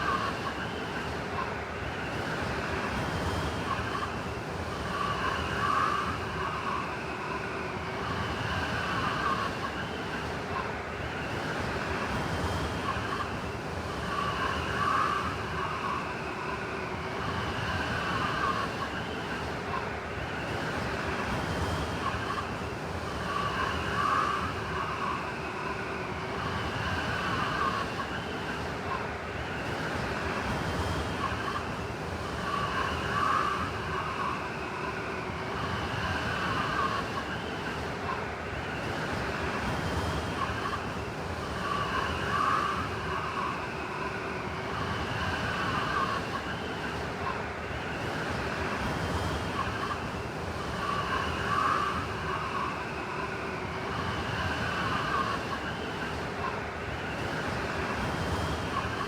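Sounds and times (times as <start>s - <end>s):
blizzard wind howling: 0.0s - 59.0s.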